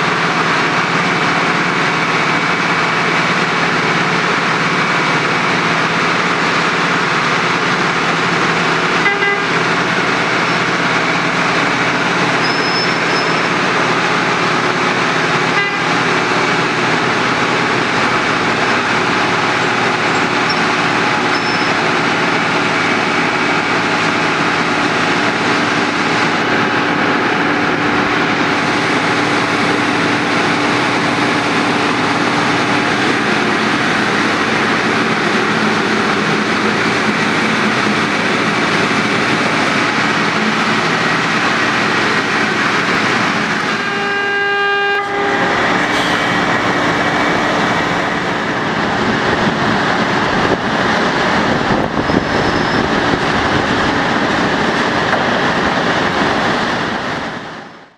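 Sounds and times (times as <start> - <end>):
diesel engine drone: 0.0 - 57.9.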